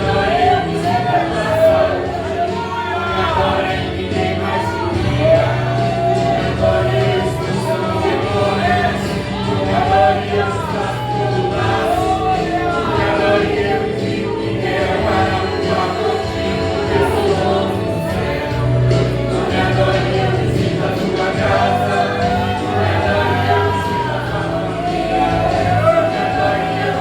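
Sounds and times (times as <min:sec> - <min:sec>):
instrumental accompaniment: 0:00.0 - 0:27.0
voices singing gospel: 0:00.0 - 0:27.0.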